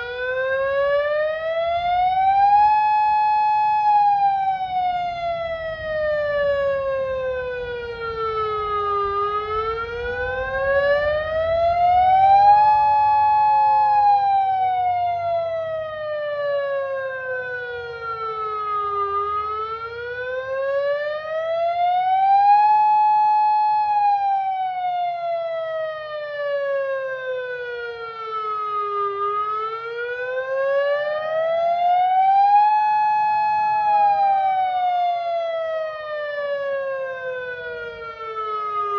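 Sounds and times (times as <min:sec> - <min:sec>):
outdoor warning siren wail: 0:00.0 - 0:38.9.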